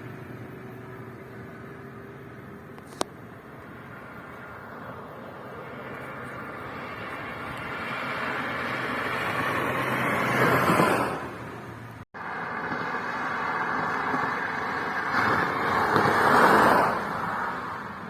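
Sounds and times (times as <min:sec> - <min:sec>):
car passing by: 0:02.8 - 0:18.0.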